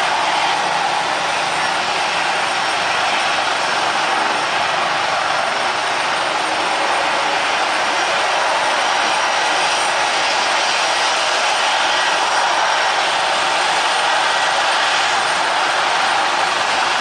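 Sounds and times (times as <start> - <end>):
helicopter turbine whine: 0.0 - 17.0
jet engines taxiing: 0.0 - 17.0.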